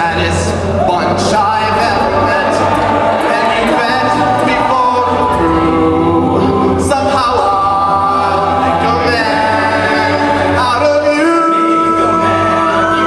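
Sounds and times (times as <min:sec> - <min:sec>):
a cappella group singing: 0:00.0 - 0:13.0.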